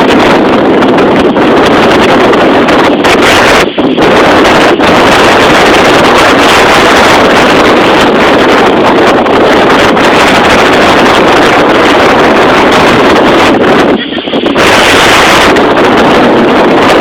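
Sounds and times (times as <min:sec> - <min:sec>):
wind blasting on microphone: 0:00.0 - 0:17.0.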